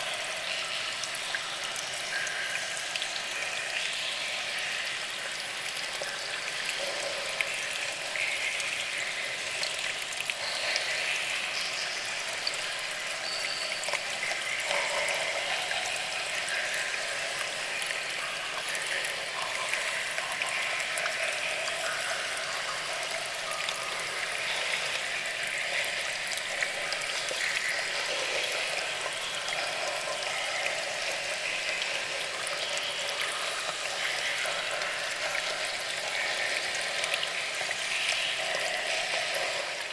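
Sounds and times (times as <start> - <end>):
trickling water: 0.0 - 39.9
water drips: 0.0 - 39.9.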